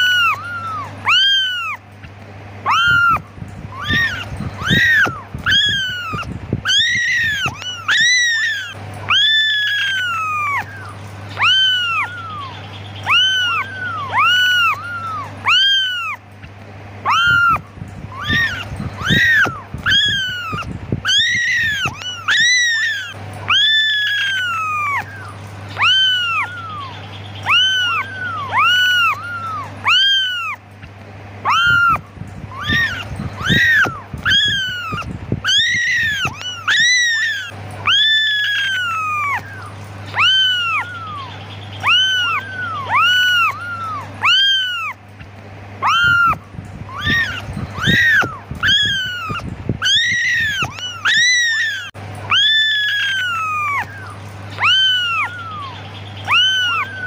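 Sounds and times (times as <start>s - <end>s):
faint low hum: 0.0s - 57.0s
kittens meowing: 0.0s - 57.0s.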